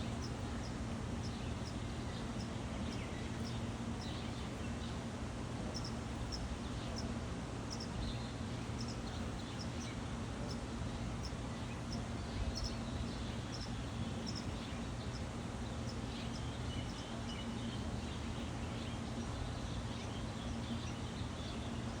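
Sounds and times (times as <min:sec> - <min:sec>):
low background hum: 0:00.0 - 0:22.0
small birds chirping: 0:00.0 - 0:22.0.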